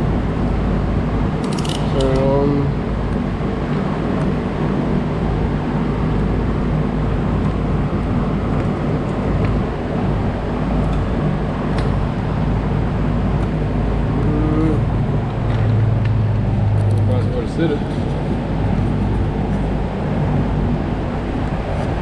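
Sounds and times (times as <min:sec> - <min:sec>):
mechanical drone: 0:00.0 - 0:22.0.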